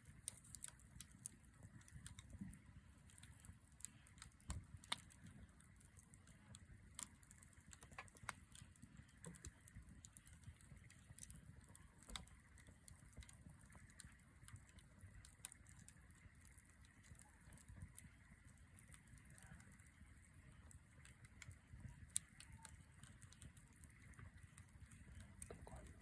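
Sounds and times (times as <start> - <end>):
campfire crackling and popping: 0.0 - 26.0
faint low rumble: 0.0 - 26.0.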